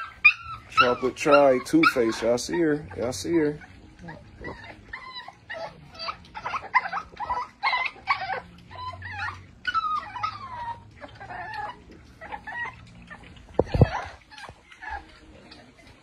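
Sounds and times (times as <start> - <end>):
puppies whining and squealing: 0.0 - 16.0.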